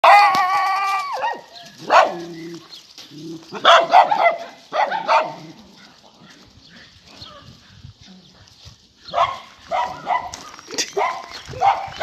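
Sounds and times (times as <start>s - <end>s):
puppies barking and yipping: 0.0s - 8.0s, 8.6s - 12.0s.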